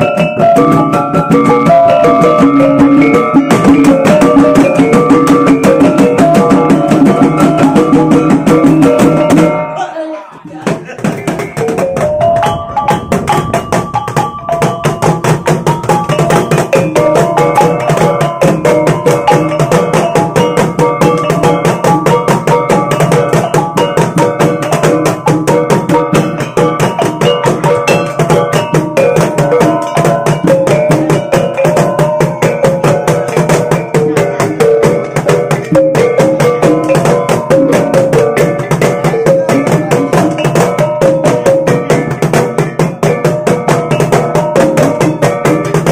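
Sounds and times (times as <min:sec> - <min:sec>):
wooden drums beaten fast: 0:00.0 - 0:45.9.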